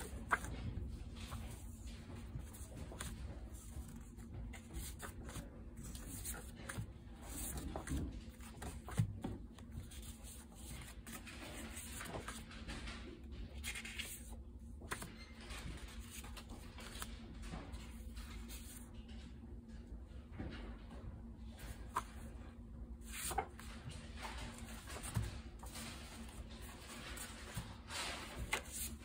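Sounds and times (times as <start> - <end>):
paper cards rustling: 0.0 - 12.9, 13.5 - 18.9, 23.0 - 29.0.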